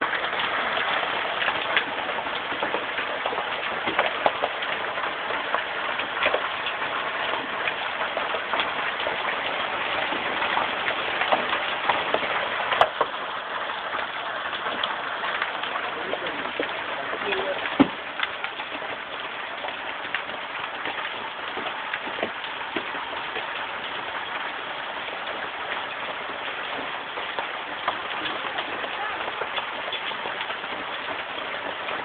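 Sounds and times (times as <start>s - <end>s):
hailstones striking hard surfaces: 0.0s - 32.0s
heavy rain hiss: 0.0s - 32.0s.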